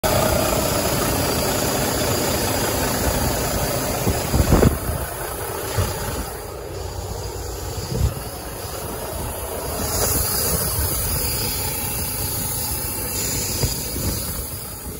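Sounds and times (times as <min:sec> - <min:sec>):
diesel truck engine idling: 0:00.0 - 0:14.9.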